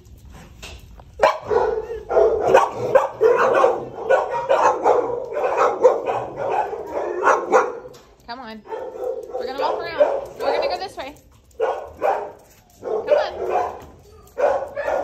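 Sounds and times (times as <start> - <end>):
dogs barking: 1.2 - 15.0.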